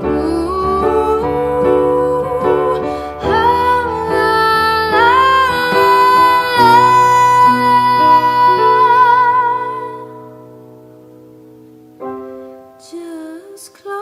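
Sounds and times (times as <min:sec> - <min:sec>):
woman singing with vibrato: 0:00.0 - 0:10.4, 0:12.8 - 0:14.0.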